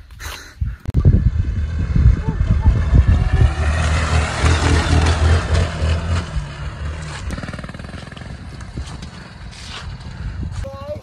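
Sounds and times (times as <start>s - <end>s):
motorcycle engine running: 1.0s - 10.6s.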